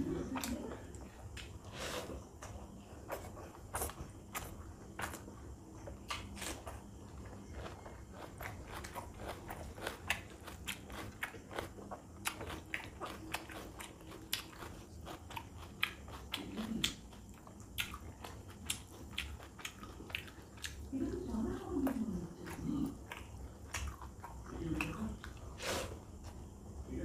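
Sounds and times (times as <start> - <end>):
chewing and lip smacking: 2.3 - 25.6.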